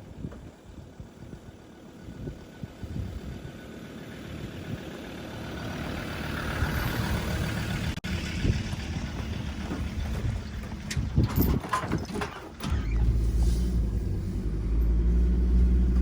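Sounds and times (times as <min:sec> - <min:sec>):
pickup engine rumbling: 0:00.0 - 0:16.0.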